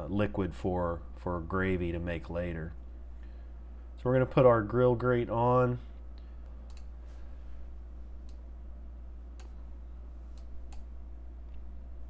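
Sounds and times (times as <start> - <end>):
faint low electrical hum: 0.0 - 12.0.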